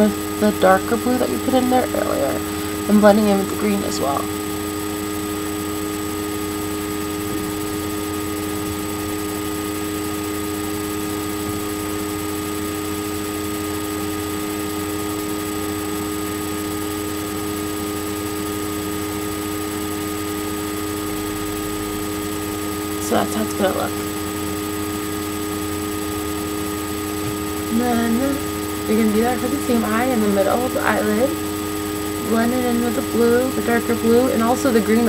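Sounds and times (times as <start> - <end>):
background hum and hiss: 0.0 - 35.0
constant tones: 0.0 - 35.0.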